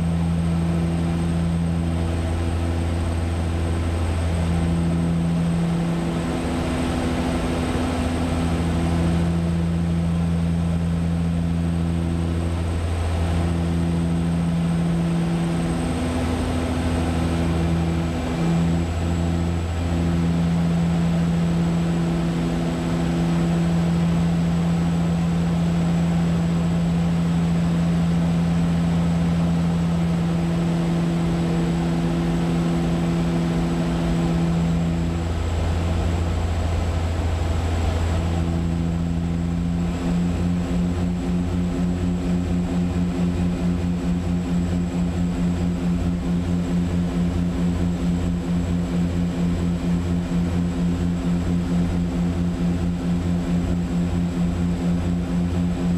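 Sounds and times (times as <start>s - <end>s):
turboprop engines droning in flight: 0.0s - 55.9s.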